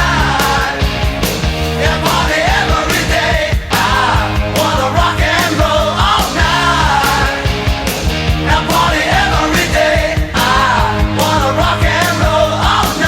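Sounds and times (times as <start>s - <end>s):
hard rock music: 0.0s - 13.0s.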